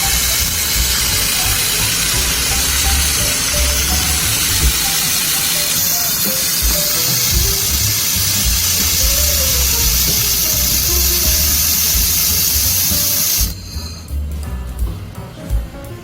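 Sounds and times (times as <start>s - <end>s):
background music with bass line: 0.0s - 5.5s, 6.6s - 16.0s
laser welder hissing: 0.0s - 13.8s.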